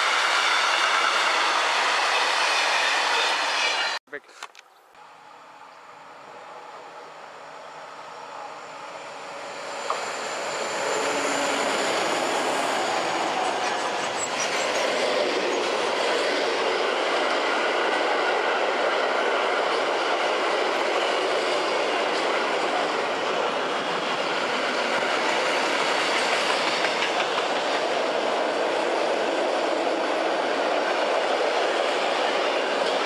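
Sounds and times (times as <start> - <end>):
freight train passing: 0.0 - 4.0, 5.0 - 33.0.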